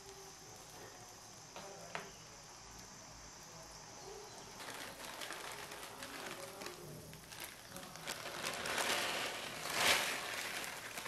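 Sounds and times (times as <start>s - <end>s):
steady high hiss: 0.0s - 11.0s
water boiling in pan: 0.0s - 11.0s.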